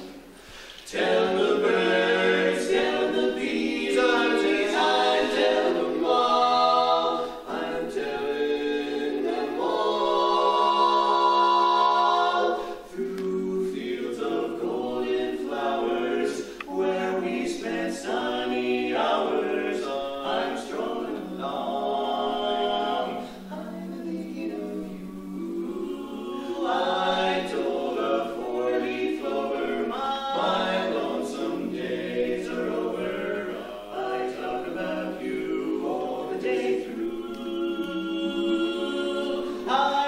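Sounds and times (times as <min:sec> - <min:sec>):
male quartet singing in harmony: 0:00.0 - 0:40.0.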